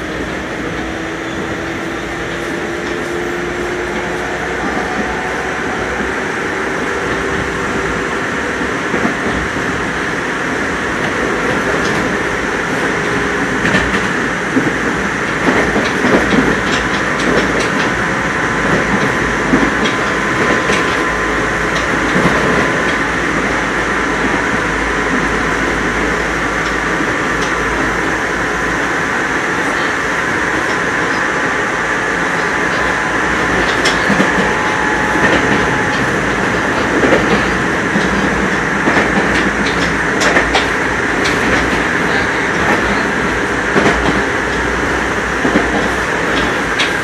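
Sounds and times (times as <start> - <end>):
train wheels rolling on rail: 0.0 - 47.0.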